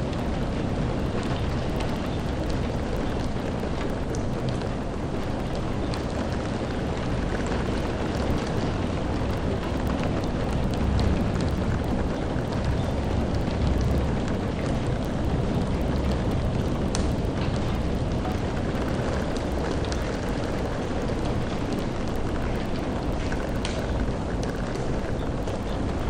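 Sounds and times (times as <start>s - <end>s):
heavy rain: 0.0s - 26.0s
raindrops tapping: 0.0s - 26.0s.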